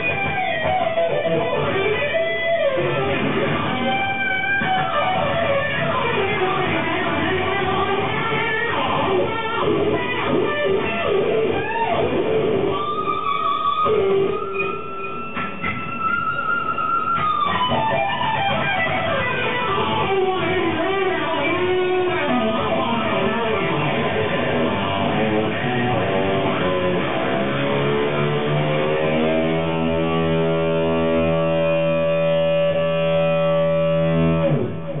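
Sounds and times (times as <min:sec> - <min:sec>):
electric guitar: 0:00.0 - 0:35.0.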